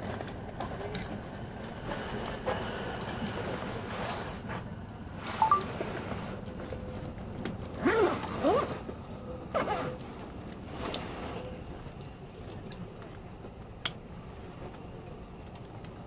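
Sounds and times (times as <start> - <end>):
train cabin rumble and hiss: 0.0 - 16.0.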